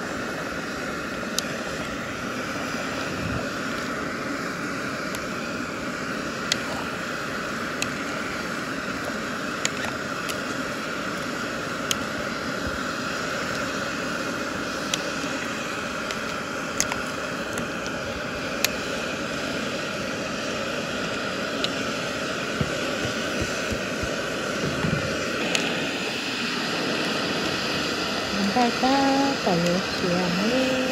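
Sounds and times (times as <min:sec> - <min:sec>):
steady rushing roar: 0:00.0 - 0:30.9.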